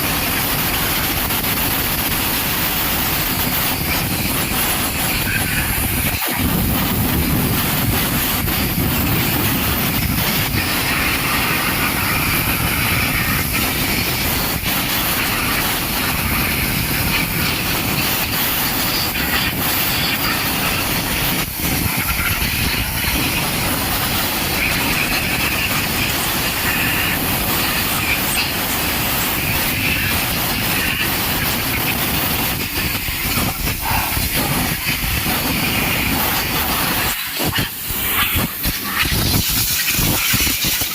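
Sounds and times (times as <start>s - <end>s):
car wash machinery noise: 0.0s - 40.9s
car wash spraying water: 0.0s - 40.9s.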